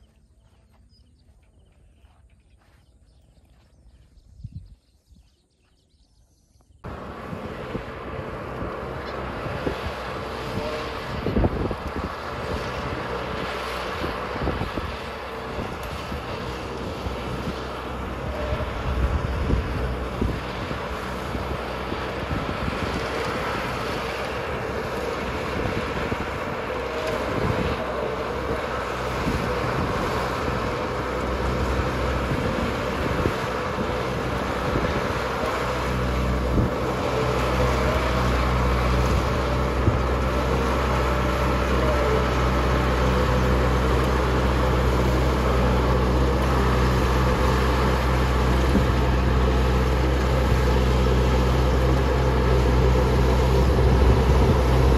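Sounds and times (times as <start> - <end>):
harvester engine running: 6.8 - 54.9.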